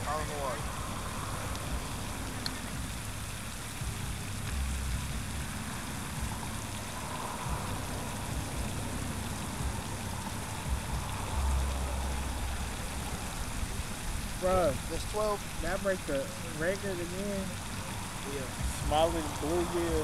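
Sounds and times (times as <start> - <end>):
low rumbling wind gusts: 0.0 - 16.4.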